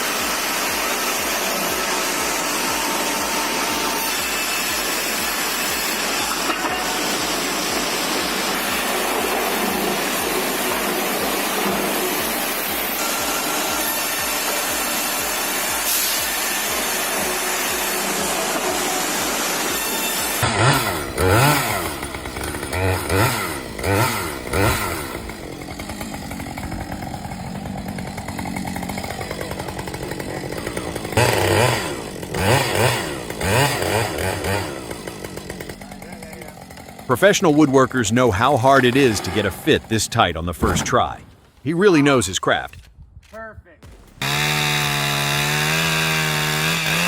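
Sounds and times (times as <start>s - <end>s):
chainsaw revving: 0.0s - 41.2s, 43.9s - 47.0s
steady machine noise: 0.0s - 41.2s.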